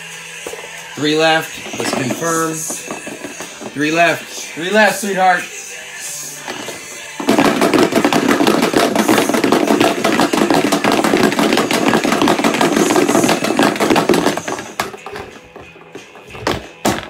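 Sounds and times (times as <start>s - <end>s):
balls rattling in plastic tub: 1.0s - 5.5s, 6.2s - 17.0s.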